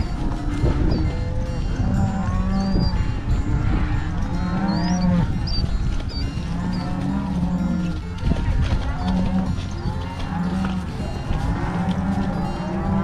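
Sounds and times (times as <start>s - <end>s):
cattle mooing and bawling: 0.0s - 13.0s.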